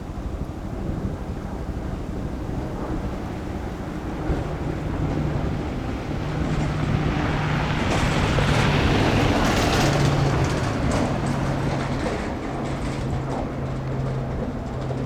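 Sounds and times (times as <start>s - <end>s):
vehicle engine humming: 0.0s - 15.0s
wind-like rushing noise: 0.0s - 15.0s.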